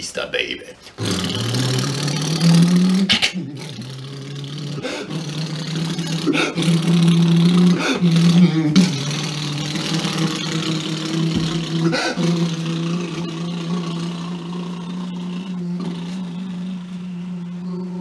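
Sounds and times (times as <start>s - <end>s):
man imitating engine with voice: 1.0s - 17.3s.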